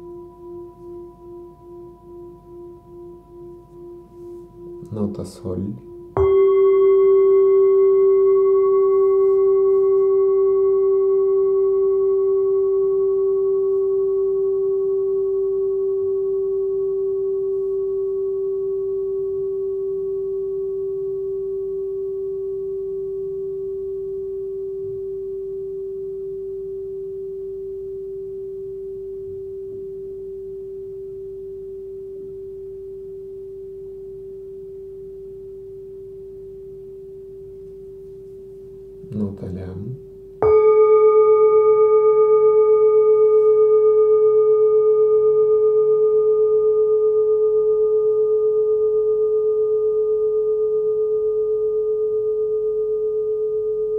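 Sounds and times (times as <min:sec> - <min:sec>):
singing bowl ringing: 0:00.0 - 0:53.9.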